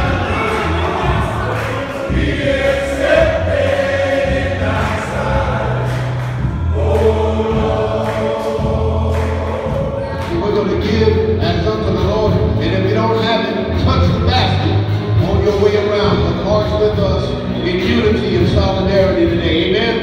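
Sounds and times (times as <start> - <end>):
men's choir singing gospel: 0.0 - 20.0.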